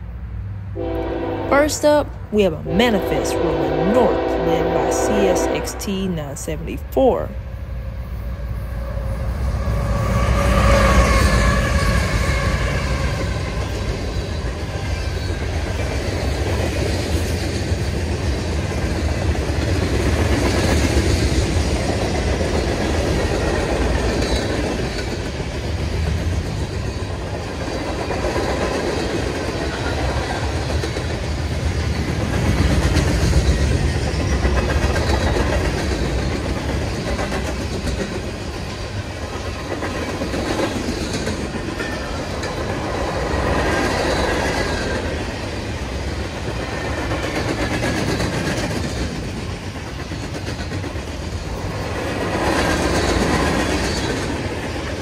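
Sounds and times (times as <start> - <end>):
diesel locomotives passing: 0.0 - 55.0.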